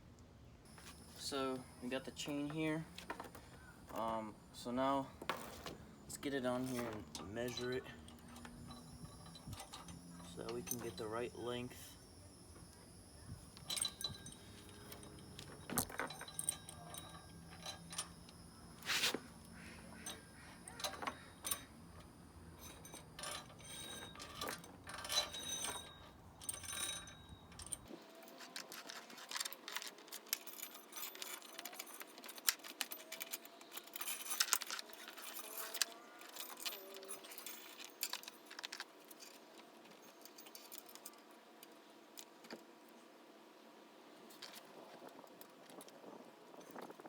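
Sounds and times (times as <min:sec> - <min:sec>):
roller chain clinking and rattling: 0:00.7 - 0:41.3.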